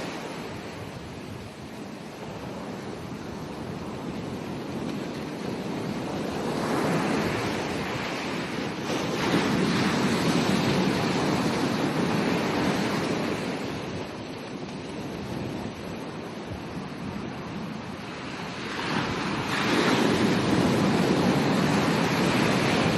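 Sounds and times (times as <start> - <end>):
ocean waves breaking on beach: 0.0 - 22.9.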